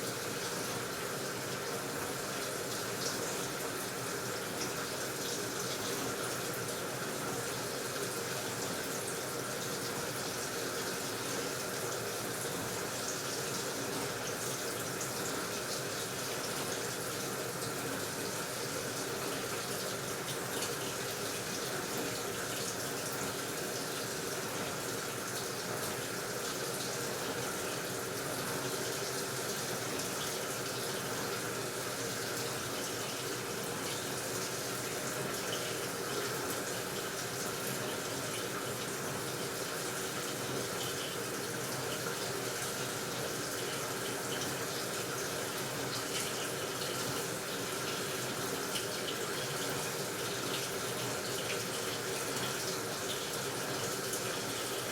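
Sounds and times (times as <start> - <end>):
water rushing into washing machine: 0.0 - 54.9.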